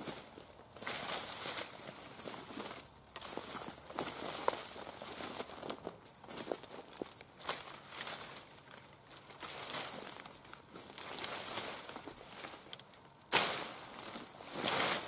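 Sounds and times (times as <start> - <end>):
bramble rustling and crackling: 0.0 - 15.0.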